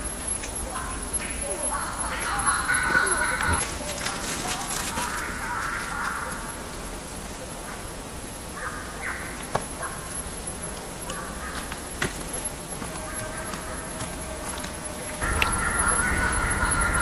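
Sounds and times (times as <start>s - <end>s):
harsh animal calls: 0.6s - 6.8s, 8.4s - 17.0s.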